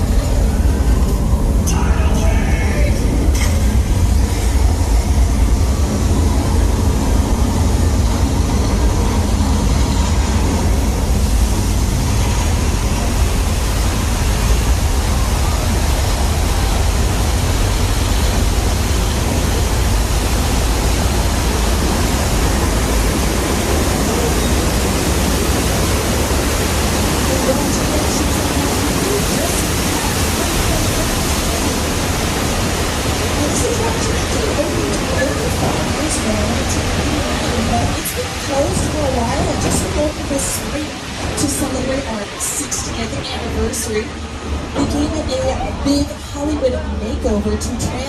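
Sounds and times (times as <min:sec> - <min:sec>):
loud rushing noise: 0:00.0 - 0:45.8
deep continuous rumble: 0:00.0 - 0:48.0.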